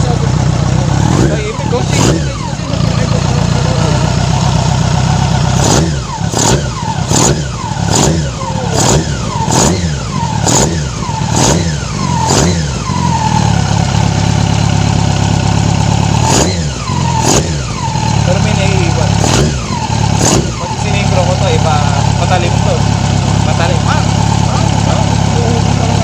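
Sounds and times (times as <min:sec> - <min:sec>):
motorcycle engine idling: 0:00.0 - 0:26.0
motorcycle engine revving: 0:00.0 - 0:26.0.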